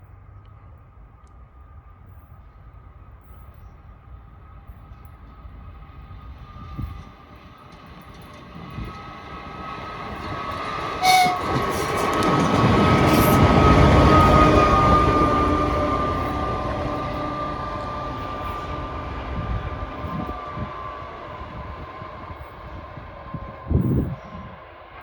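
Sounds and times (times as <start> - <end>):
diesel locomotive engine: 0.0 - 25.0.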